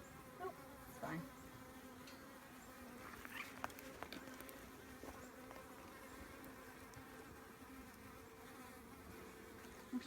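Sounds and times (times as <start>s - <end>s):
bees humming: 0.0s - 10.0s.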